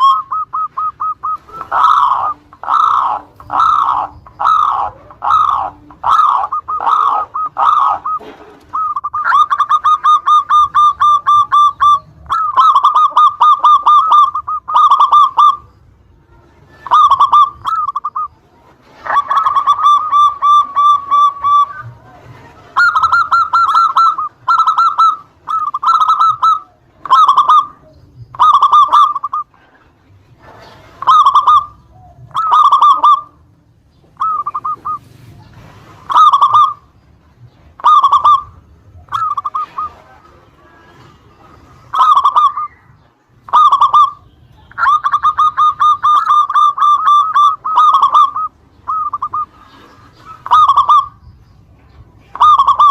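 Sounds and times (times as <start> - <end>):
dove cooing: 0.0 - 52.9
dove rolling trills: 0.0 - 52.9.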